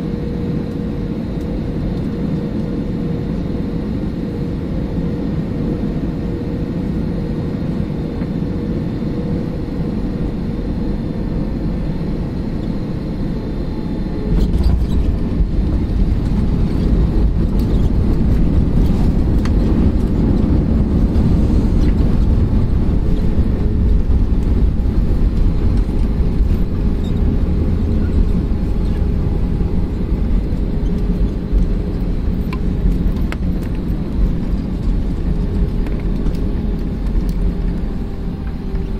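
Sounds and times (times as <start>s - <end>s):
jet engine and runway rumble: 0.0s - 38.9s.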